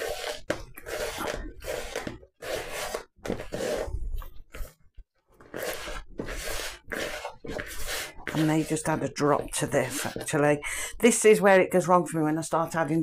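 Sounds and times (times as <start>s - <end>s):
hands mixing dough in plastic bowl: 0.0s - 10.6s.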